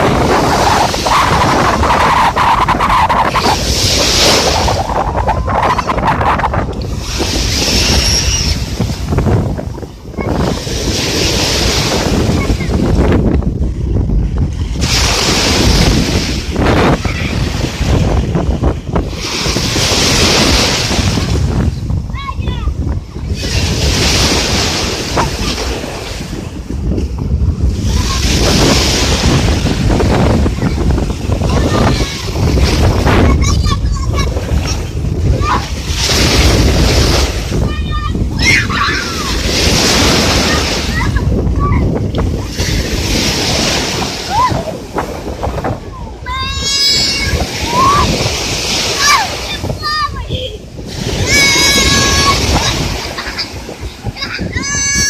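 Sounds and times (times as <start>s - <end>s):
sea waves breaking on shore: 0.0s - 55.0s
surf washing ashore: 0.0s - 55.0s
wind buffeting the microphone: 0.0s - 55.0s.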